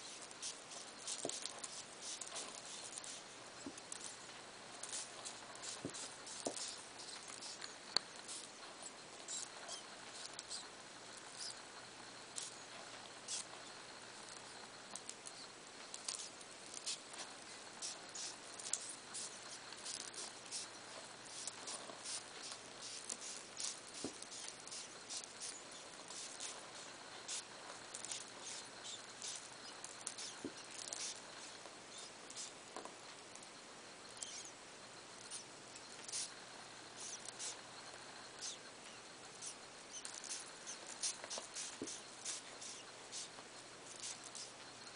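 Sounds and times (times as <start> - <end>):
high-pitched ticking and rustling: 0.0 - 34.5, 35.2 - 44.9
steady low hiss: 0.0 - 44.9.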